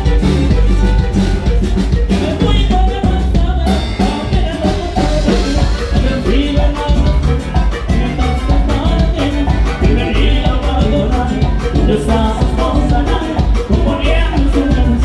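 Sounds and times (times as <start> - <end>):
band with saxophone playing: 0.0 - 15.0.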